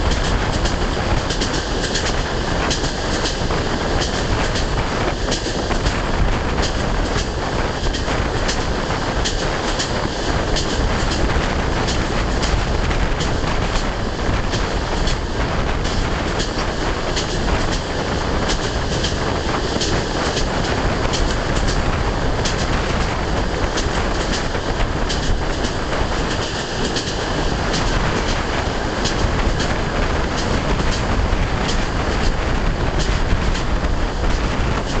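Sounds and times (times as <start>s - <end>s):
sharp track clicks: 0.0s - 35.0s
train wheels rushing on rails: 0.0s - 35.0s.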